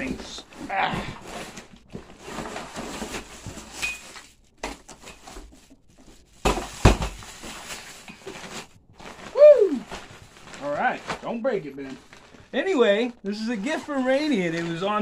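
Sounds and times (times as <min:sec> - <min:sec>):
cardboard packaging rustling: 0:00.0 - 0:15.0.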